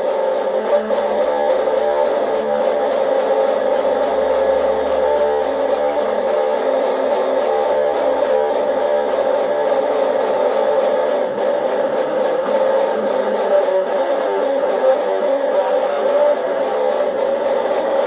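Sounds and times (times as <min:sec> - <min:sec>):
electric guitar playing: 0:00.0 - 0:18.0.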